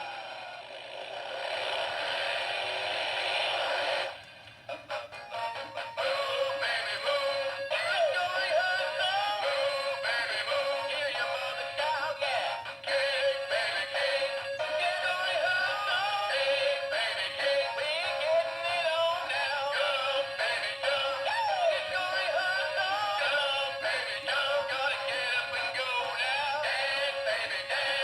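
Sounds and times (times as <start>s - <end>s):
tinny music with male singing: 4.0s - 28.0s.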